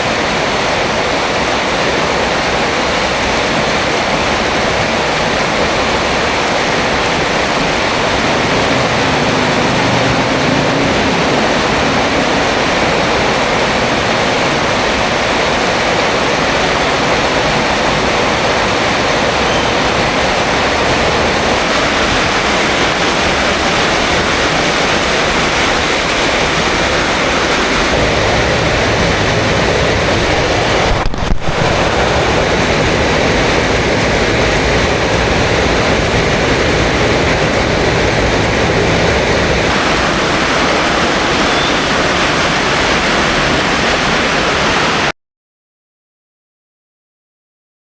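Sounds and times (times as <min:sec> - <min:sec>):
heavy rain falling: 0:00.0 - 0:45.1.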